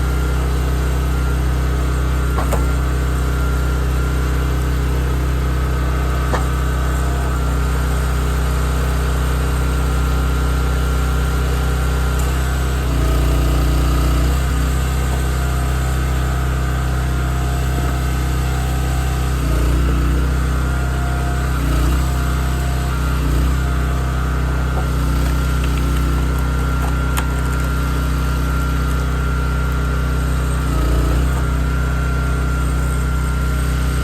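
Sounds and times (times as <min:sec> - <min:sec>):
log splitter engine running: 0:00.0 - 0:34.0.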